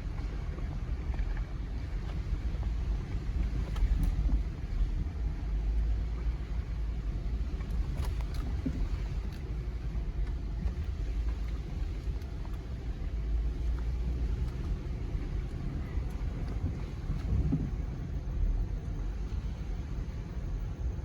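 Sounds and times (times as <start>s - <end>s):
low rumble of engine and tyres: 0.0s - 21.0s.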